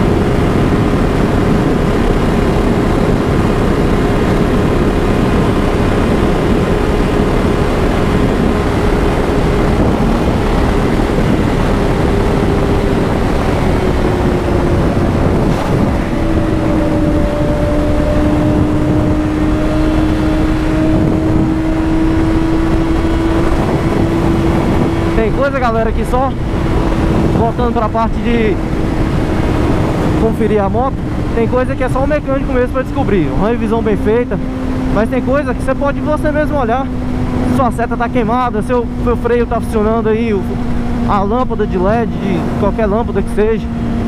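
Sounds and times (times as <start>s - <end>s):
motorcycle engine running: 0.0s - 44.0s
wind rush on microphone: 0.0s - 44.0s.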